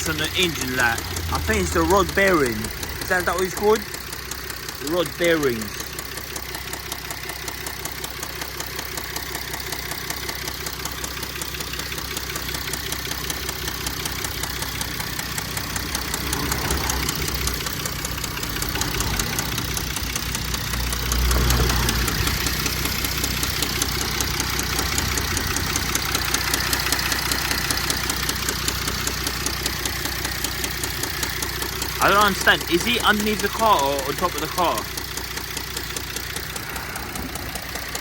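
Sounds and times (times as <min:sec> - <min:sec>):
diesel engine knocking: 0:00.0 - 0:38.0.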